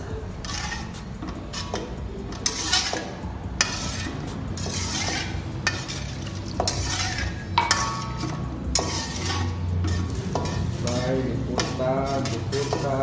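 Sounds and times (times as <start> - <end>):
food sizzling: 0.0 - 13.0
ringing metal clink: 0.0 - 13.0
metal spatula scraping a pan: 0.4 - 13.0.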